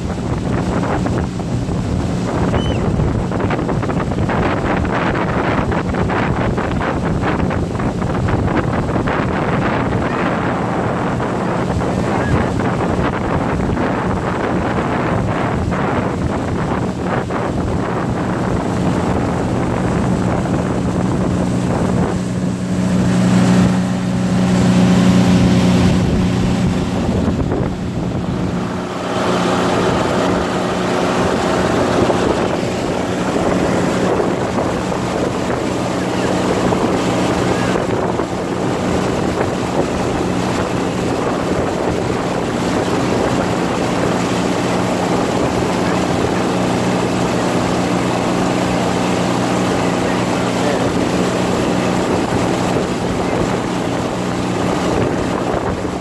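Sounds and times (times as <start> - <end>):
boat motor humming: 0.0 - 56.0
water rushing past hull: 0.0 - 56.0
wind buffeting microphone: 0.0 - 56.0.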